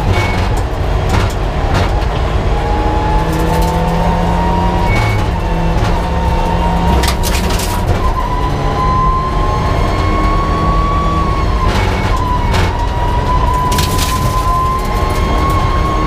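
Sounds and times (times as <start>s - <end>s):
car engine running hard: 0.0s - 16.0s.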